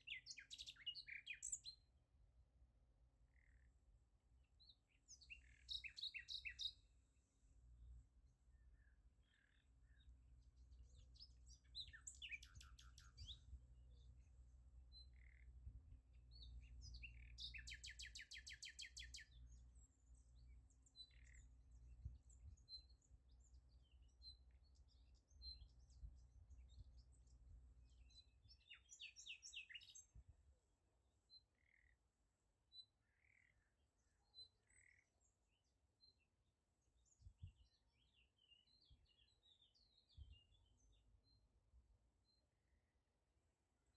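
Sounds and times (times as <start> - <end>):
small birds chirping: 0.0 - 2.0, 3.2 - 42.6.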